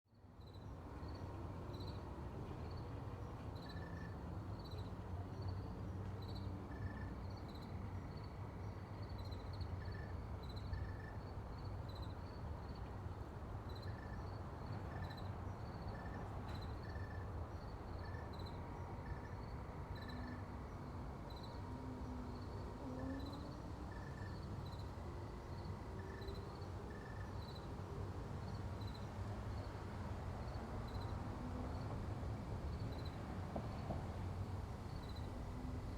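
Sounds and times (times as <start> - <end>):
distant road traffic rumble: 0.8 - 35.9.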